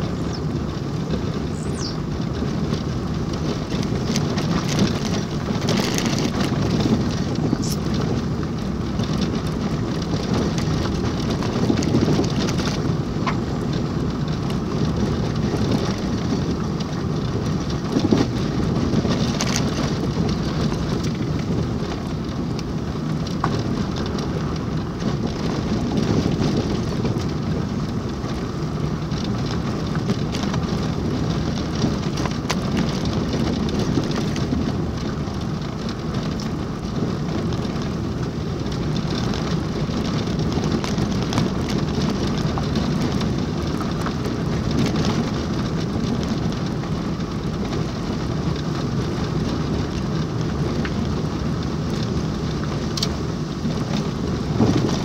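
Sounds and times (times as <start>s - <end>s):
car tyres and engine rumbling: 0.0s - 55.0s
small rattles and ticks: 0.0s - 55.0s.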